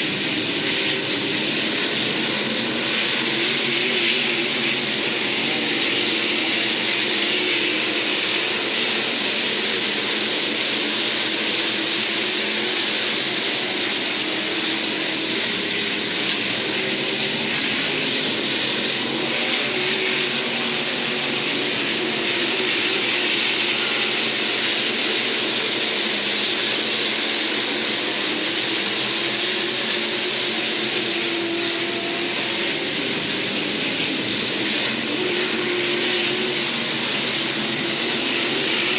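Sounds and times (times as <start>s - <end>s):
race car engines running hard: 0.0s - 38.9s.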